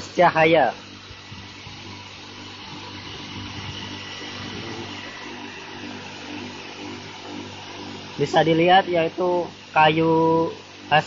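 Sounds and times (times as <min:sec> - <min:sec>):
constant hiss: 0:00.0 - 0:11.0
low machine hum: 0:00.0 - 0:11.0.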